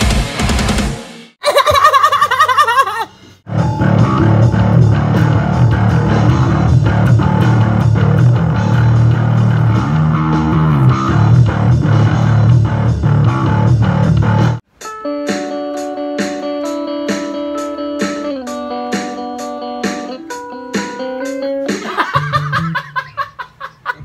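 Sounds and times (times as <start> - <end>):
electric guitar and bass rock riff: 3.5 - 22.7.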